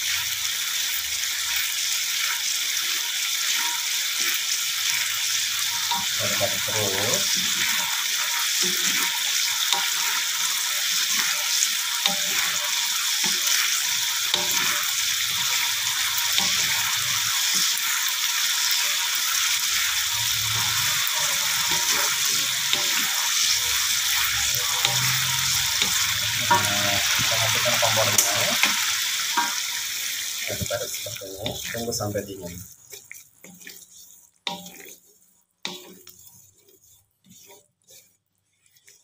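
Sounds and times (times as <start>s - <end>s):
chili paste sizzling in oil: 0.0s - 39.0s
wooden spatula scraping a pan: 1.6s - 39.0s.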